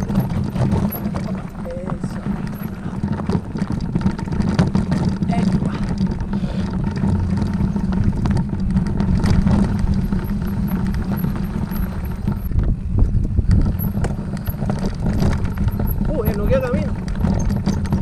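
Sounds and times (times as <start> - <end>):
knocks and rattles: 0.0 - 18.0
vehicle engine rumble: 0.0 - 18.0.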